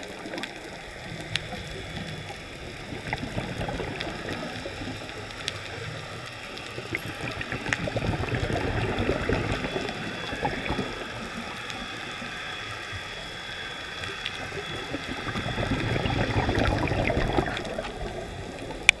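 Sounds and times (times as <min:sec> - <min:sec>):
low underwater swell: 0:00.0 - 0:19.0
muffled underwater noise: 0:00.0 - 0:19.0.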